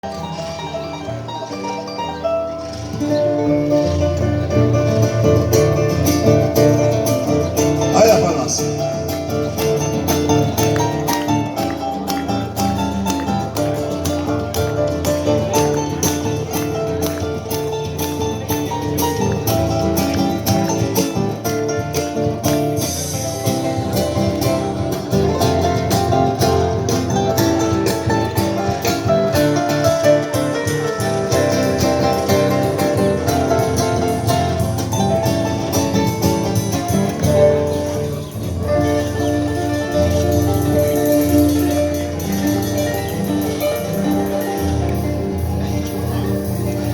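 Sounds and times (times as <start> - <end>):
harp playing lively piece: 0.0 - 46.9.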